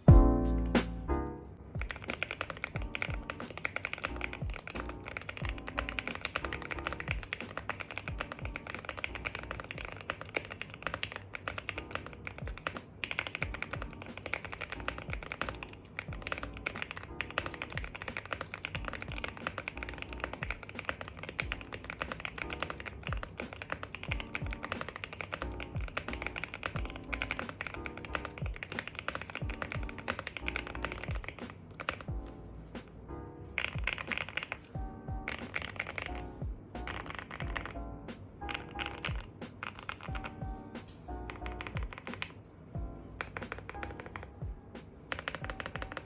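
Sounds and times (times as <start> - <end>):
background music: 0.0 - 46.0
mechanical keyboard typing: 1.8 - 32.1, 33.6 - 36.2, 36.8 - 37.8, 38.5 - 40.4, 41.3 - 42.4, 43.2 - 44.4, 45.1 - 46.0.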